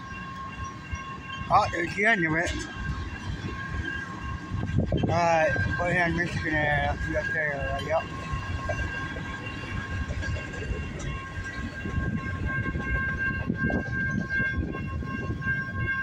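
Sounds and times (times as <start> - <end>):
freight train on rails: 0.0 - 16.0
wind buffeting microphone: 0.4 - 16.0.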